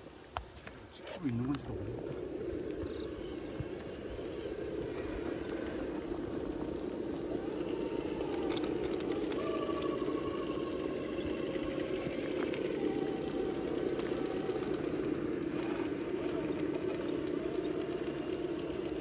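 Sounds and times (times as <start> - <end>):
high-pitched whine: 0.0 - 19.0
toy truck motor whirring: 3.3 - 19.0.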